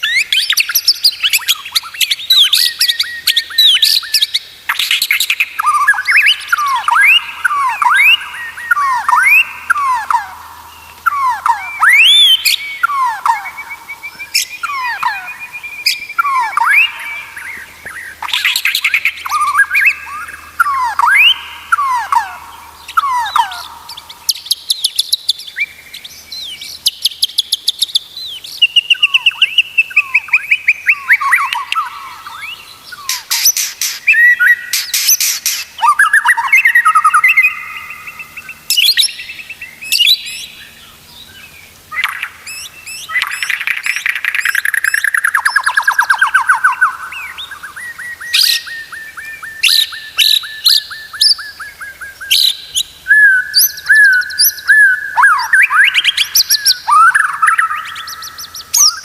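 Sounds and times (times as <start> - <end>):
bird singing whistled song: 0.0 - 59.0.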